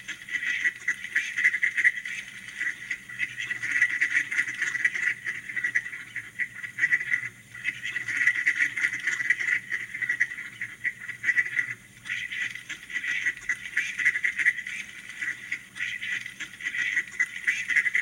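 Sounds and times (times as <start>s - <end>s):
duck quacking: 0.0s - 18.0s.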